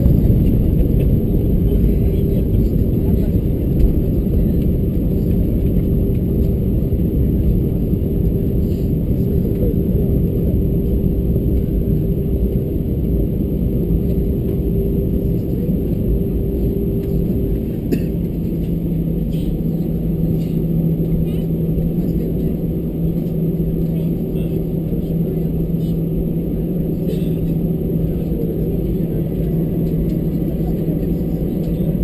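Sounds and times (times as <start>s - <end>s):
held hum: 0.0s - 32.0s
jet engine rumble in cabin: 0.0s - 32.0s.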